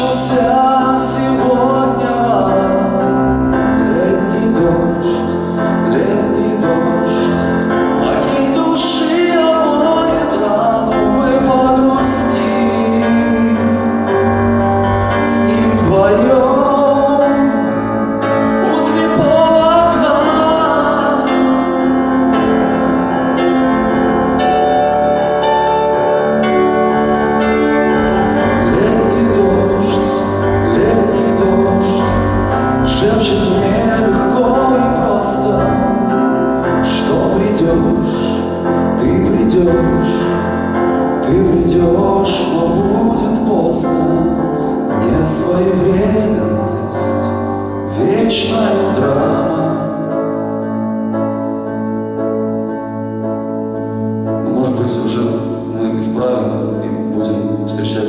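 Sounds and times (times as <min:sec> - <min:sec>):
man singing into microphone: 0:00.0 - 0:22.8, 0:28.2 - 0:50.6, 0:53.9 - 0:58.0
electronic keyboard: 0:00.0 - 0:58.0.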